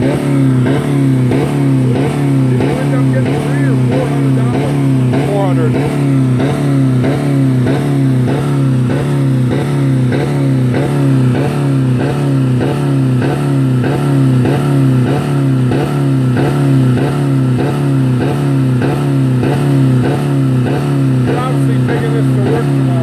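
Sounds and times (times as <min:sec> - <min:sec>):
car engine on rev limiter: 0:00.0 - 0:23.0.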